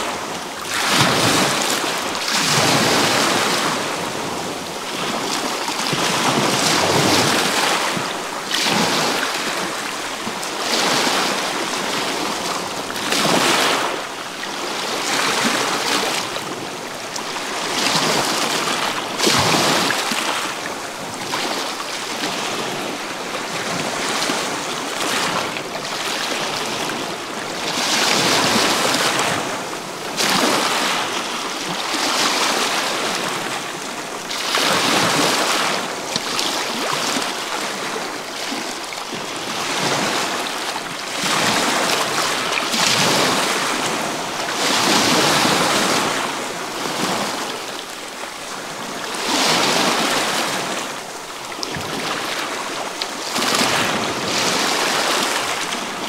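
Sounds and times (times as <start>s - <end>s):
waves washing over pebble beach: 0.0s - 56.0s.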